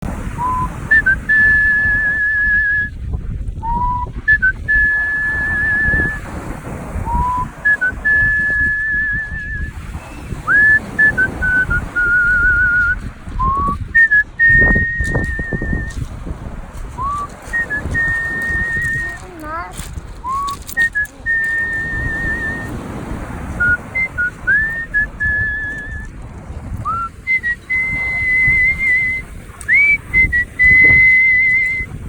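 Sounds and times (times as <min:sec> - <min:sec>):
person whistling a melody: 0:00.4 - 0:03.0, 0:03.6 - 0:06.3, 0:07.0 - 0:16.1, 0:17.0 - 0:19.6, 0:20.2 - 0:26.1, 0:26.8 - 0:32.0.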